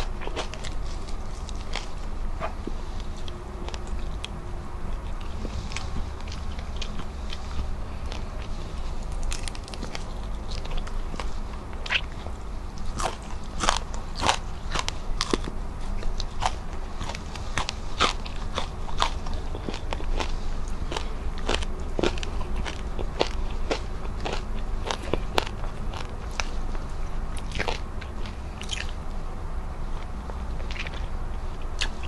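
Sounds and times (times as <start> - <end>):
crunching of chewing fried fish: 0.0 - 32.0.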